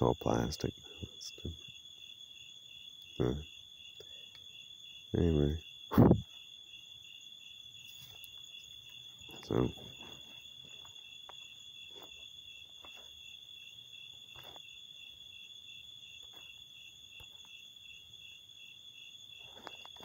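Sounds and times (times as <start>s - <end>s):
crickets trilling: 0.0s - 20.0s
pulsing cricket chirp: 0.0s - 20.0s.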